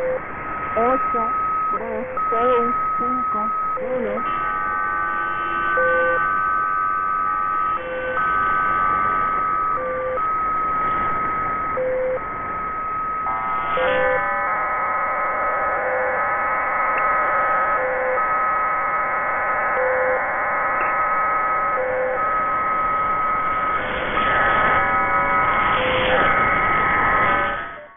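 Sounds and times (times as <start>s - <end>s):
sustained synthesizer tones: 0.0s - 27.9s.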